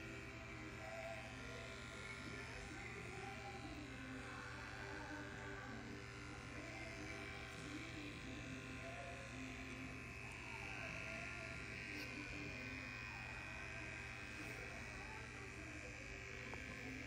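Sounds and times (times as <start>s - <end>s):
electric clipper buzzing: 0.0s - 17.0s.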